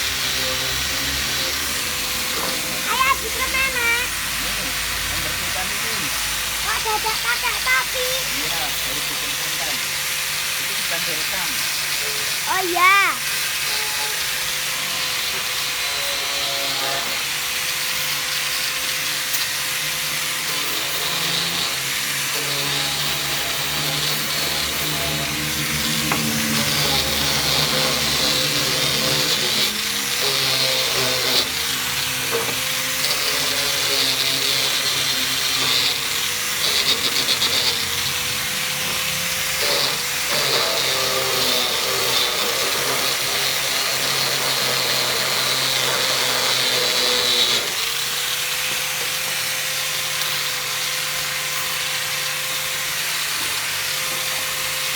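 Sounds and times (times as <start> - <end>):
electric grinder on metal: 0.0 - 54.9.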